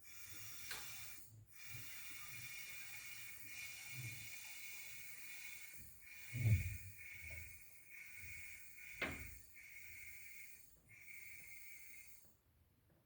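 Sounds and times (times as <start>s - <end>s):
compressed air hissing: 0.0s - 12.2s.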